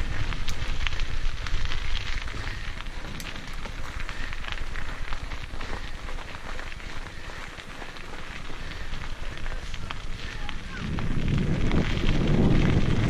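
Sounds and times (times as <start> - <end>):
bike tyres crunching on gravel: 0.0 - 13.0
flicked stones ticking: 0.0 - 13.0
wind rumble on microphone: 0.0 - 13.0.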